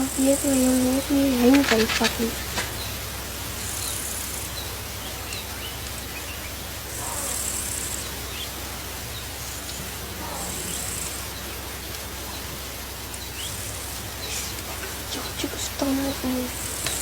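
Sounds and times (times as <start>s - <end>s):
insects buzzing: 0.0s - 17.0s
steady hiss: 0.0s - 17.0s.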